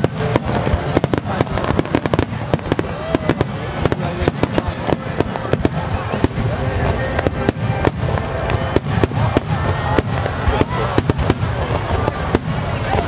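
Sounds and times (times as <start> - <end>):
fireworks crackling pops: 0.0 - 13.0
low rumble of fireworks booms: 0.0 - 13.0.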